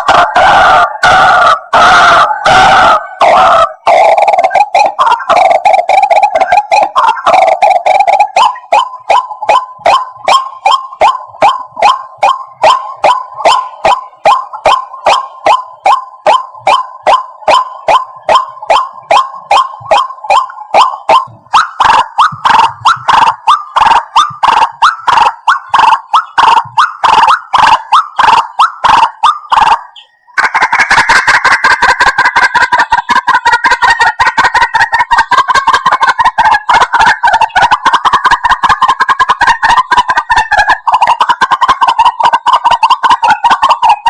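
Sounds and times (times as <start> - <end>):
harsh bird calls: 0.0 - 44.0.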